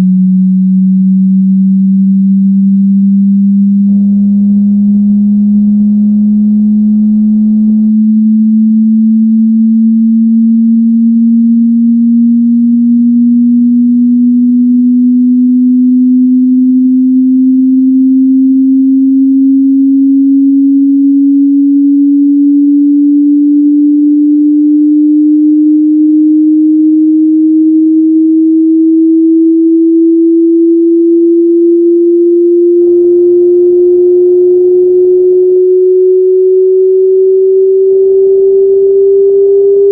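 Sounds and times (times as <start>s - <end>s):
rising sine tone sweep: 0.0s - 39.9s.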